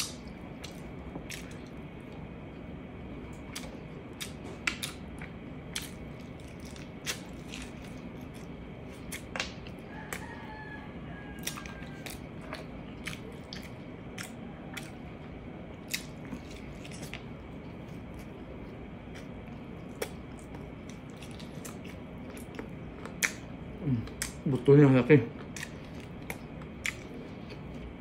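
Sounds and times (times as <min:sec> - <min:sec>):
wet chewing: 0:00.0 - 0:24.6, 0:25.3 - 0:28.0
low room hum: 0:00.0 - 0:28.0.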